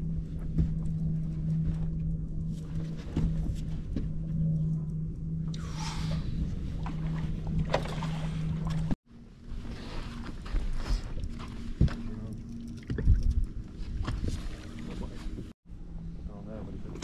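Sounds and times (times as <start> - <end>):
wind rumble: 0.0 - 17.0.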